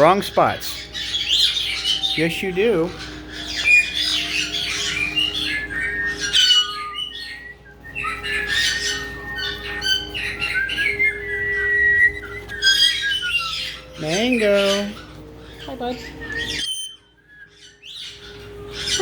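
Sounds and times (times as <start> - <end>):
parrots squawking and chirping: 0.0 - 19.0
whistled parrot note: 0.7 - 19.0.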